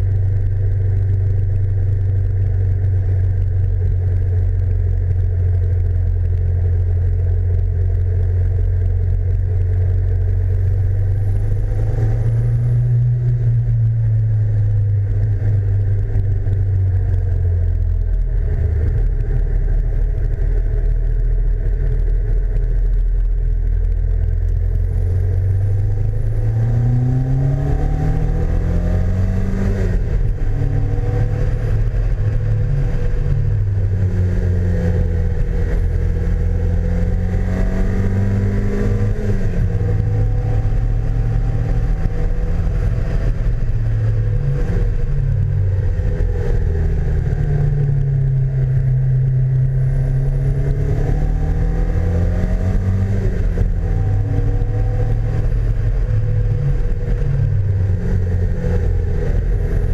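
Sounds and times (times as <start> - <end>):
car engine running: 0.0 - 59.9
wind and road rush: 0.0 - 59.9.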